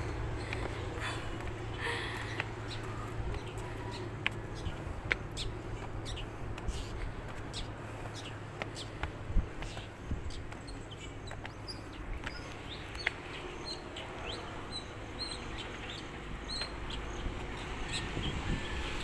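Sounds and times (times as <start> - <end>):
low outdoor rumble: 0.0 - 19.0
small birds chirping: 0.0 - 19.0.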